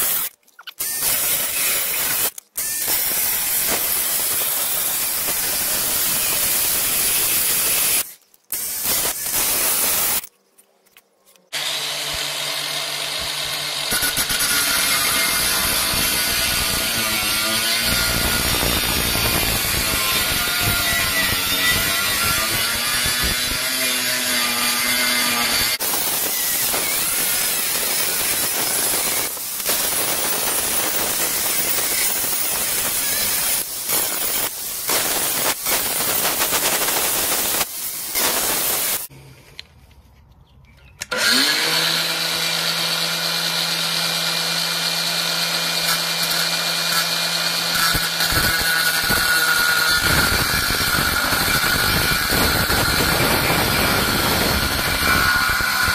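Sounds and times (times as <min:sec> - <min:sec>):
angle grinder cutting metal: 0:00.0 - 0:10.3, 0:11.5 - 0:39.1, 0:41.0 - 0:55.9.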